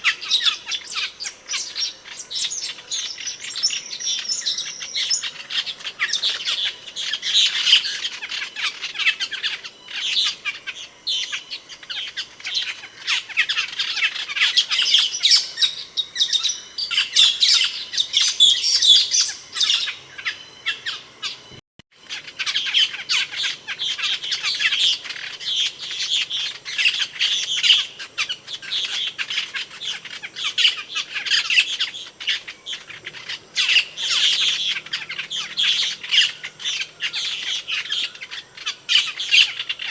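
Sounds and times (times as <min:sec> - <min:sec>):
starlings chirping: 0:00.0 - 0:39.9.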